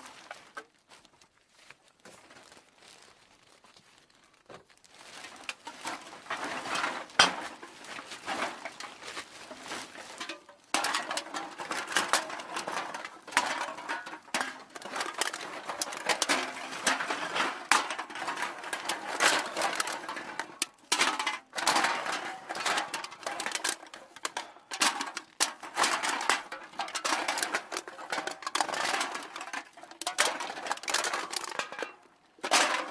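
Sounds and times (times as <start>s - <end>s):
aluminium cans clattering: 5.2s - 32.9s.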